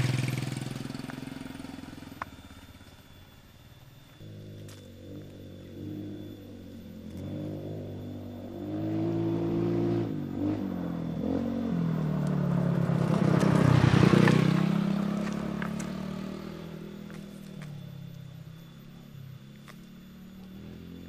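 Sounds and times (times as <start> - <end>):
vehicle engine passing: 0.0 - 2.7, 4.2 - 21.0.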